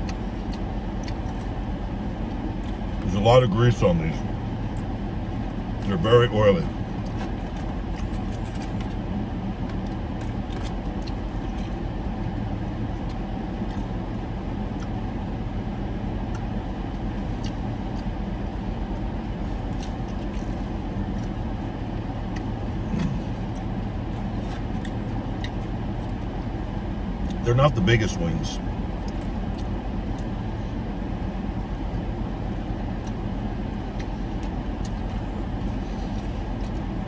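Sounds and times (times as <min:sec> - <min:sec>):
man chewing: 0:00.0 - 0:03.2, 0:04.2 - 0:06.0, 0:06.7 - 0:37.0
car idling hum: 0:00.0 - 0:37.0.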